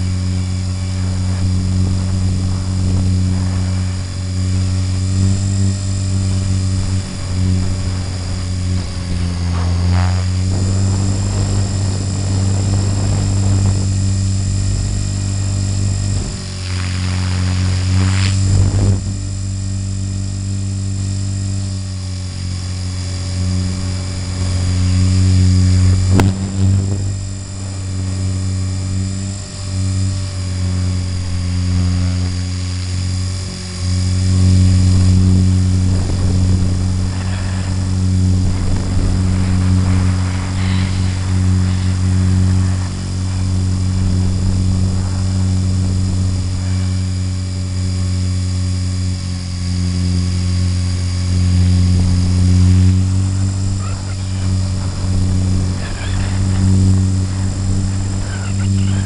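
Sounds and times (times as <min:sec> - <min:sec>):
helicopter rotor drone: 0:00.0 - 0:59.0
motor whine: 0:00.0 - 0:59.0.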